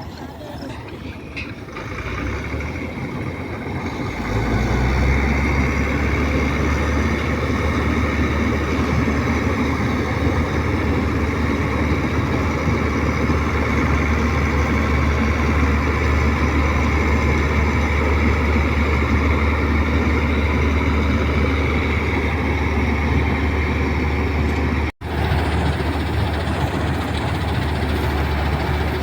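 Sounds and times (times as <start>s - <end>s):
combine harvester engine: 0.0s - 29.0s.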